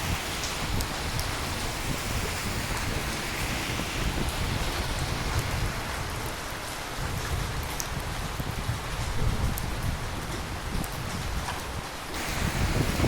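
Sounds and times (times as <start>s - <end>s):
rain on hard surfaces: 0.0s - 13.0s.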